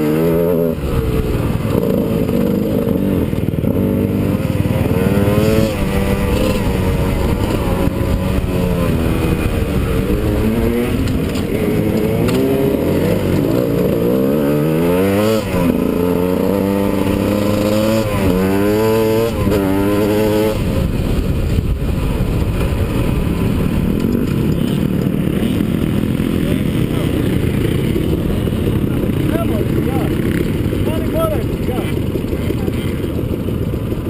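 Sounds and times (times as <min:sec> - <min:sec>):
dirt bike engine revving: 0:00.0 - 0:34.0
steady rushing noise: 0:00.0 - 0:34.0.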